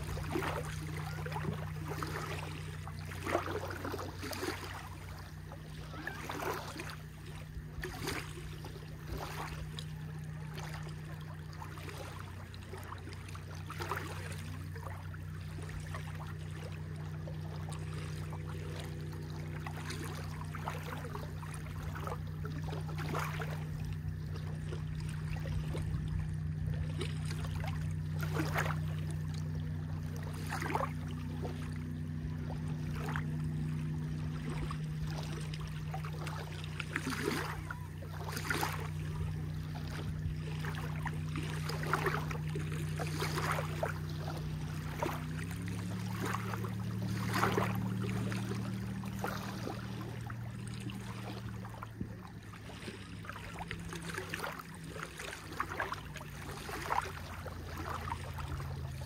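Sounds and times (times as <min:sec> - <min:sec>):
low engine hum: 0:00.0 - 0:59.0
small waves lapping on shore: 0:00.0 - 0:59.0.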